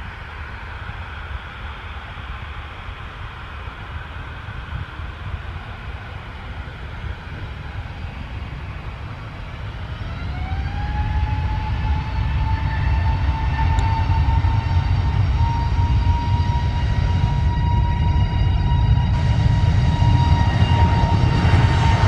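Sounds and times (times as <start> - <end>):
jet engines spooling up: 0.1 - 22.0.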